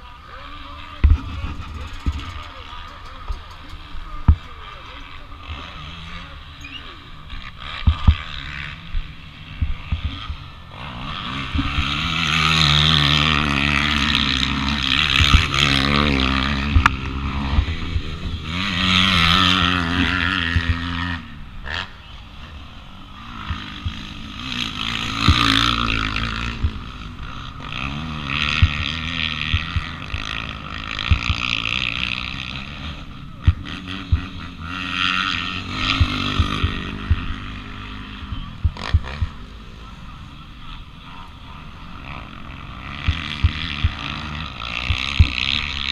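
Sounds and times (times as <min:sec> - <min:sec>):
motorbike engine revving: 0:00.0 - 0:45.9.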